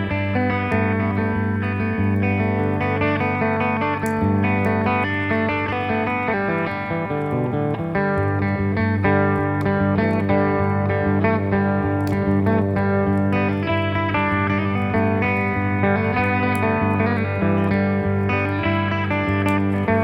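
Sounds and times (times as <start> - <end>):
plucked guitar notes: 0.0 - 20.0.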